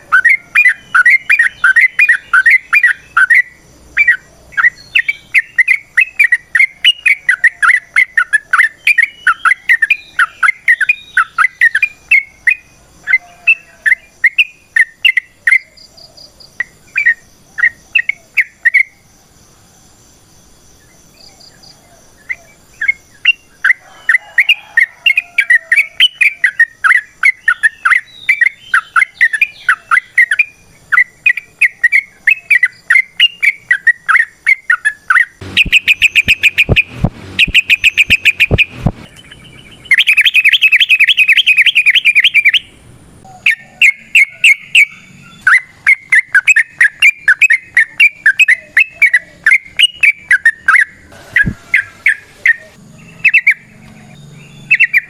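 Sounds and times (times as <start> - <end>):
bulbul chattering song: 0.0 - 19.1, 20.8 - 55.0.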